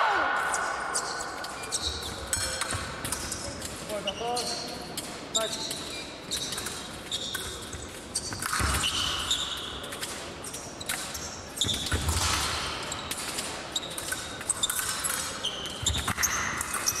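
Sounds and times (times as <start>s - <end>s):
shoes squeaking: 0.4s - 17.0s.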